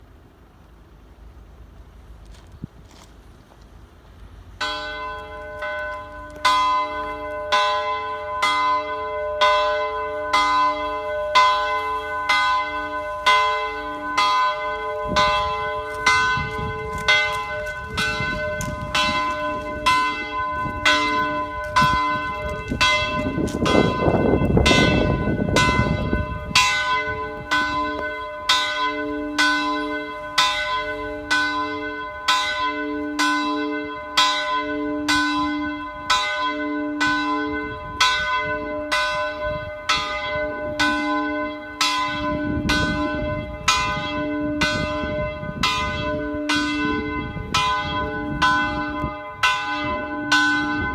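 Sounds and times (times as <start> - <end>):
church bell ringing: 4.5 - 50.9.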